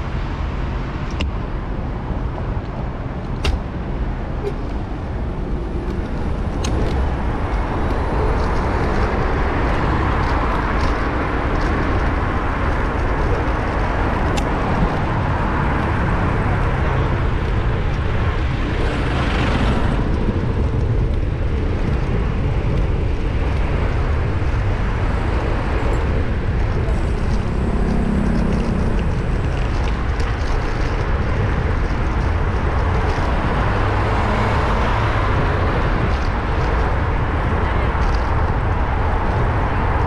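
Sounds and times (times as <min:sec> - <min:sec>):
passing vehicles rushing: 0:00.0 - 0:40.0
wind rumble on microphone: 0:00.0 - 0:40.0.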